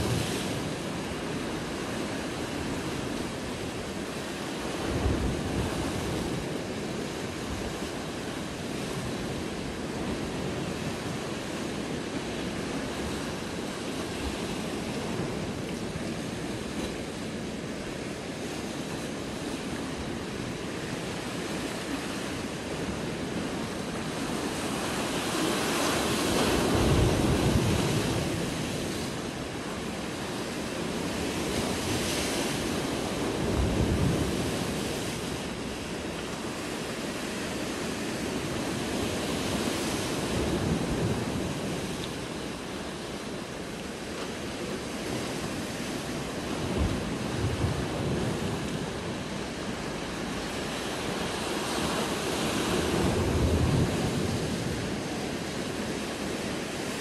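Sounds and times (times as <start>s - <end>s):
surf crashing on rocks: 0.0s - 57.0s.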